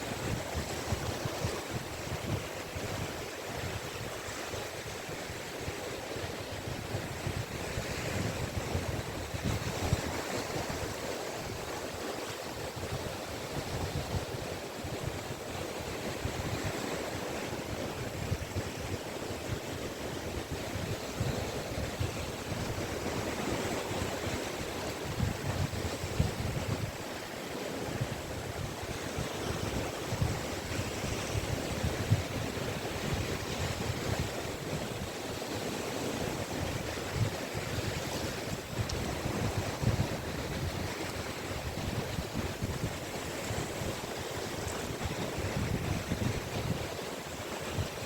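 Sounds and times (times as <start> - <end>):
sea waves washing on beach: 0.0 - 48.0
wind on microphone: 0.0 - 48.0.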